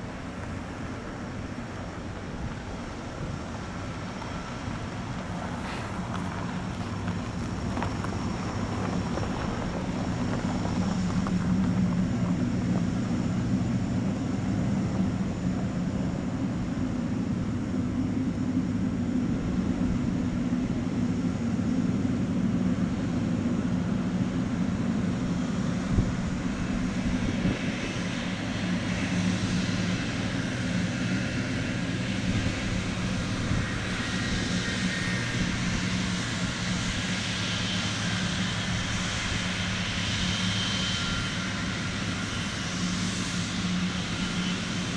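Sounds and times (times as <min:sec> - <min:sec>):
high rushing whine: 0:00.0 - 0:44.9
jet engines droning: 0:00.0 - 0:44.9.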